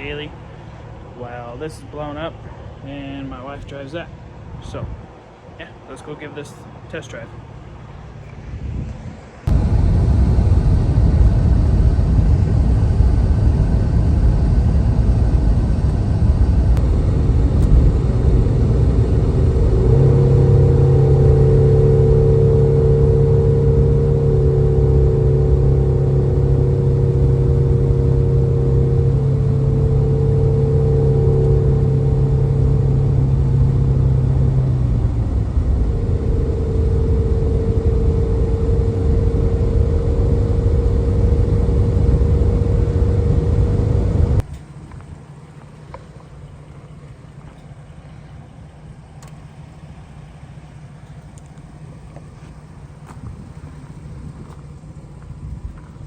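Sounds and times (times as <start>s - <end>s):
road rumble: 0.0s - 56.0s
car engine running: 9.4s - 56.0s.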